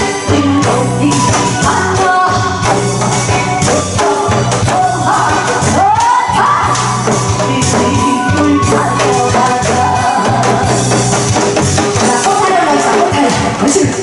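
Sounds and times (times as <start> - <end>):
person singing: 0.0 - 11.2, 11.8 - 14.0
bass-heavy performance music: 0.0 - 14.0
shaken percussion: 0.0 - 14.0.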